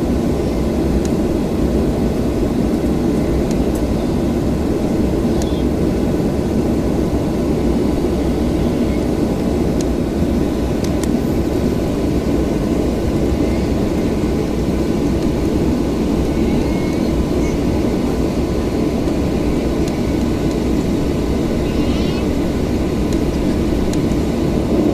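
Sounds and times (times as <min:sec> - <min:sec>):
faint steady whine: 0:00.0 - 0:24.9
jet engines idling rumble: 0:00.0 - 0:24.9.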